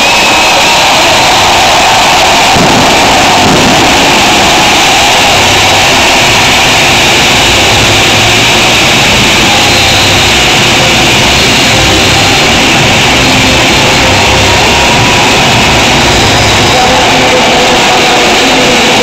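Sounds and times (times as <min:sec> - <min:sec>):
stadium crowd cheering: 0:00.0 - 0:19.0.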